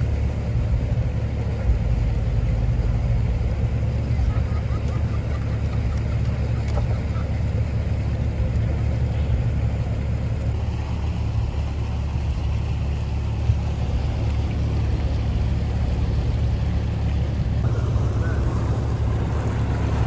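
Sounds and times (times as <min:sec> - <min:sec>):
ferry engine humming: 0:00.0 - 0:20.0.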